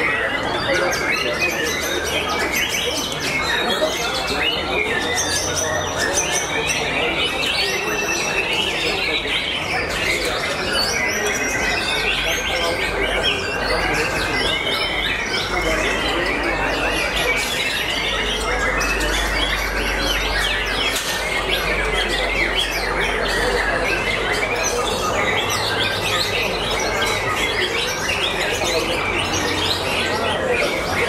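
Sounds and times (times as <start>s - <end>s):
birds singing: 0.0s - 31.0s.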